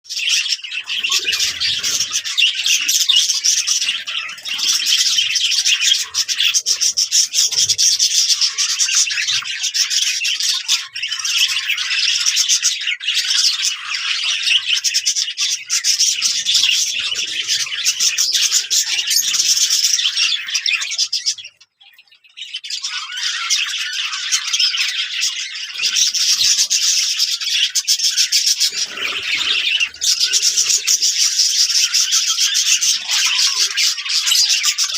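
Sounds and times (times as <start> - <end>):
budgerigars chattering: 0.1 - 21.6, 22.4 - 34.9.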